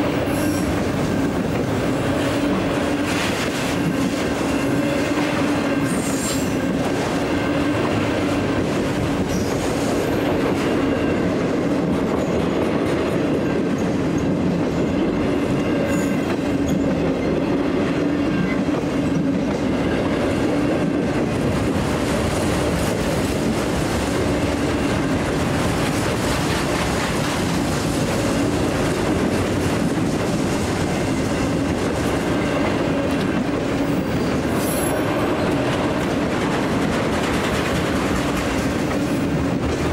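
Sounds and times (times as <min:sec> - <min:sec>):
train wheels rumbling on rail: 0:00.0 - 0:39.9
wheels clicking over rail joints: 0:00.1 - 0:39.9.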